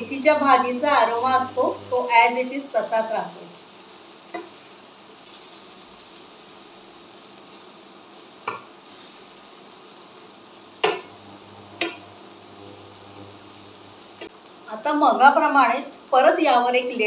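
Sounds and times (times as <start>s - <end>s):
faint sizzle: 0.0s - 17.0s.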